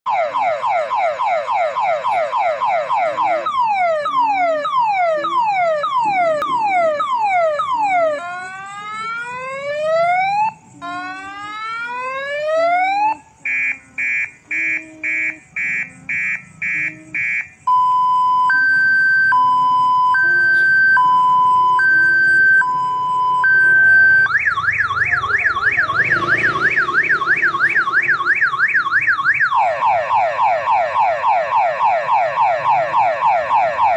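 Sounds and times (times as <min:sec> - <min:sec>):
electronic multi-tone siren: 0:00.1 - 0:33.9.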